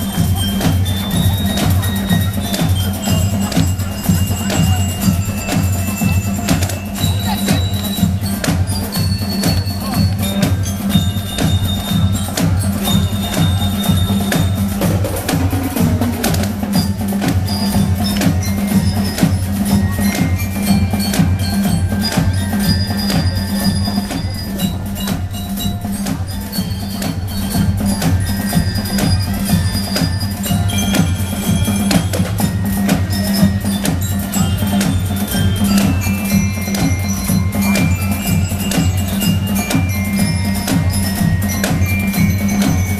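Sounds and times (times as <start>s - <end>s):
bell lyre melody: 0.0s - 42.9s
rapid snare drum strokes: 0.0s - 42.9s.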